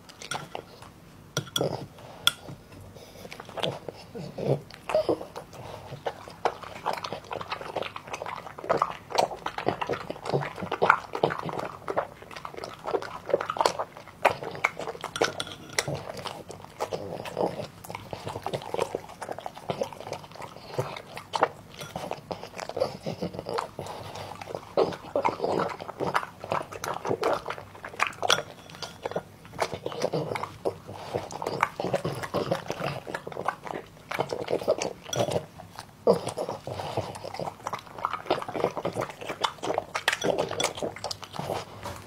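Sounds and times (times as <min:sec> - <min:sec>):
dog chewing: 0:00.0 - 0:42.0.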